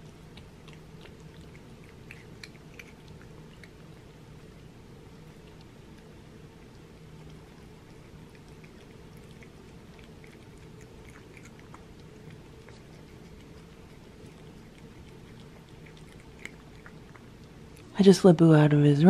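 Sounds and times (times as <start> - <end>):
cat chewing and lapping food: 0.0 - 18.0
washing machine hum: 0.0 - 19.0.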